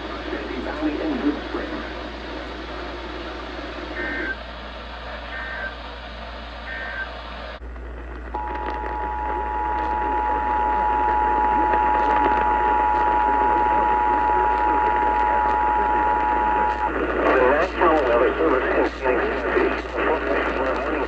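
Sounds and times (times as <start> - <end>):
radio hiss: 0.0 - 21.0.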